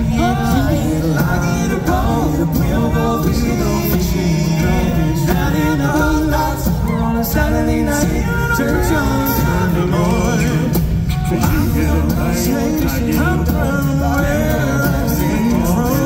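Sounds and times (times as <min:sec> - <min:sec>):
men singing in harmony: 0:00.0 - 0:16.0
vocal percussion beat: 0:00.0 - 0:16.0.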